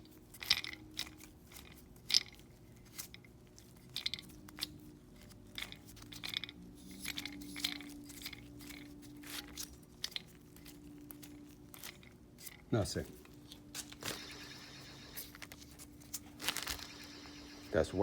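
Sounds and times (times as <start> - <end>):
belt squeaking: 0.0 - 18.0.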